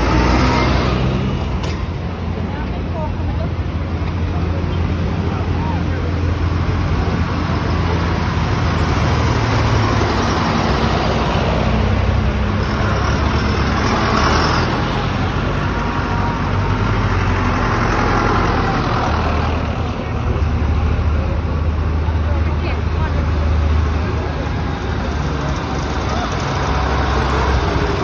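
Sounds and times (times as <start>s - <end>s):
second tractor engine: 0.0s - 28.0s
tractor diesel engine passing: 0.0s - 28.0s.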